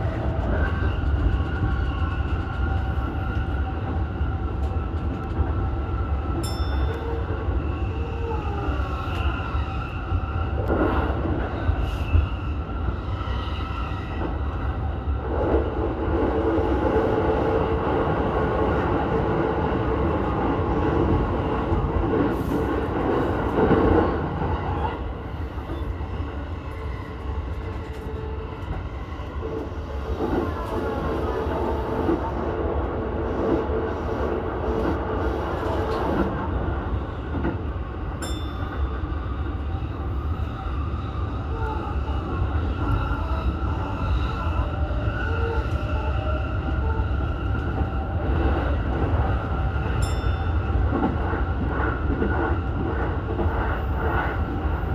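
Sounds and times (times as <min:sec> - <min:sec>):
train humming tone: 0:00.0 - 0:54.9
train wheels rumbling on rail: 0:00.0 - 0:54.9.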